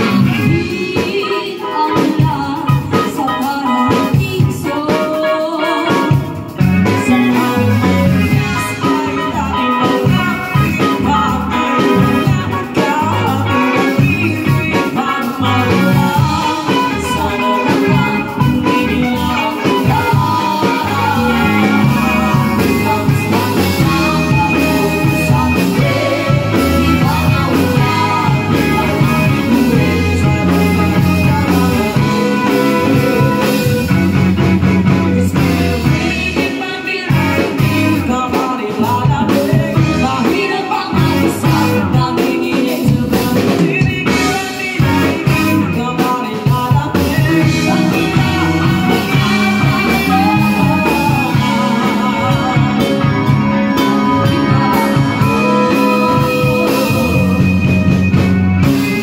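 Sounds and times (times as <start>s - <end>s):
electric bass: 0.0s - 1.4s, 5.7s - 59.0s
man and woman singing together: 0.0s - 33.8s, 35.3s - 57.6s
drum kit: 0.0s - 59.0s
electric guitar: 0.0s - 59.0s
keyboard: 0.0s - 59.0s.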